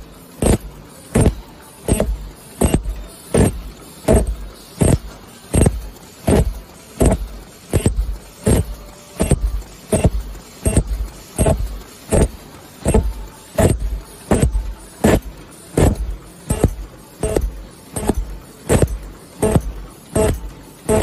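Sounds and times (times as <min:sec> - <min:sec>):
low mechanical hum: 0:00.0 - 0:21.0
machine clanking rhythmically: 0:00.0 - 0:21.0.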